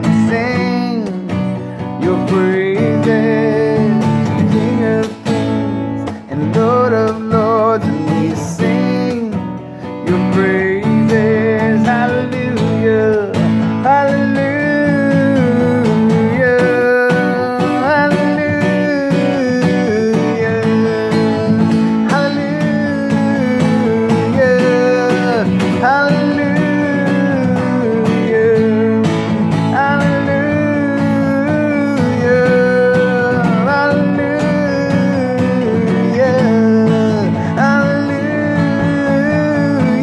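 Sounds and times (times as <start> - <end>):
acoustic guitar strumming: 0.0 - 40.0
person singing wordless melody: 0.0 - 40.0.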